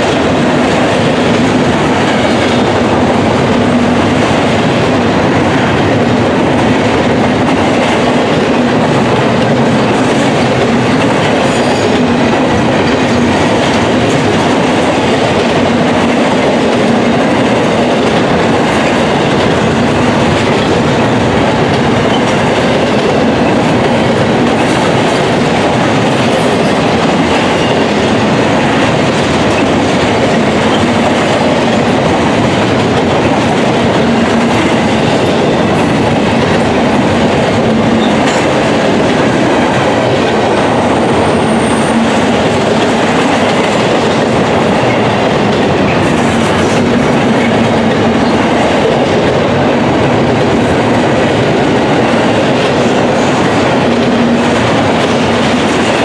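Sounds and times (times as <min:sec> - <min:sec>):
freight train wheels over rail joints: 0:00.0 - 0:56.0.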